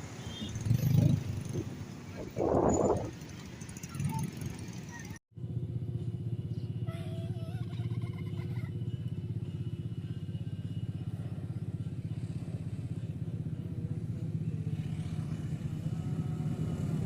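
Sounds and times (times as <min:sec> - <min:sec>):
fast-pulsing engine rumble: 0:01.2 - 0:17.0.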